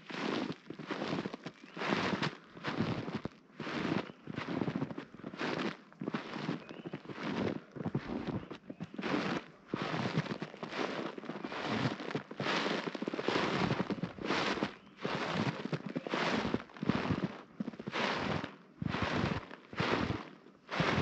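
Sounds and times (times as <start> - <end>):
footsteps crunching through snow: 0.0 - 21.0.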